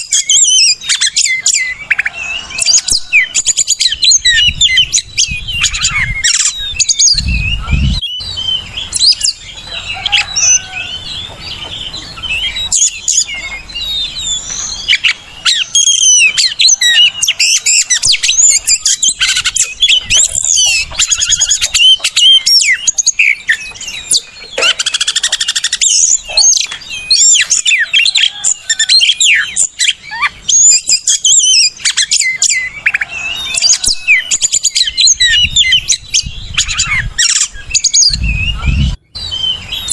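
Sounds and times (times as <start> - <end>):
bird singing varied whistles: 0.0 - 39.9.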